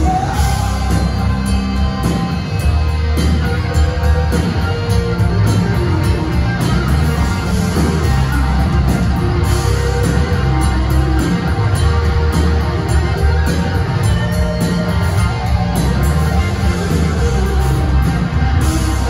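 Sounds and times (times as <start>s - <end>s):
distorted electric guitars: 0.0s - 19.0s
rock band playing loudly: 0.0s - 19.0s.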